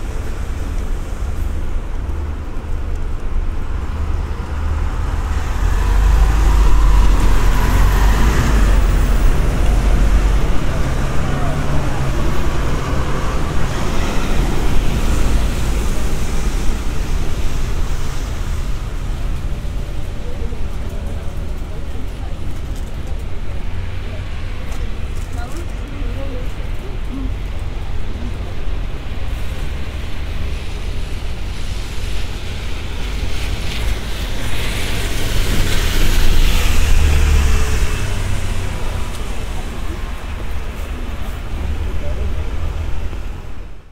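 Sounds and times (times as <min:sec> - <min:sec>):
traffic on wet road: 0:00.0 - 0:43.9.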